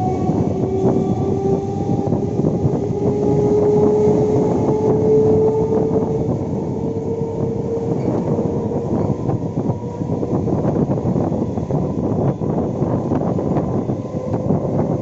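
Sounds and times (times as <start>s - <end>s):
train motor whine: 0.0s - 15.0s
train wheels rumbling on track: 0.0s - 15.0s.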